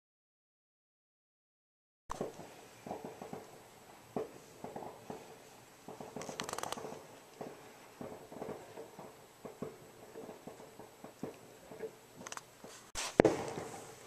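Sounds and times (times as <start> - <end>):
firecrackers popping: 2.1 - 14.0.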